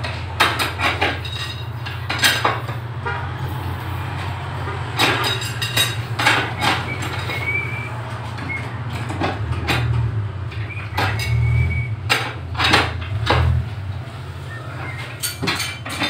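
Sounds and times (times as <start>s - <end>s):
metal rods clanking: 0.0s - 16.0s.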